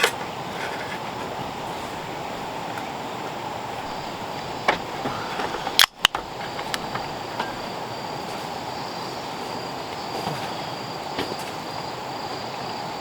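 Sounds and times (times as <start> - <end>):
insects chirping: 0.0 - 13.0
mountain stream rushing: 0.0 - 13.0.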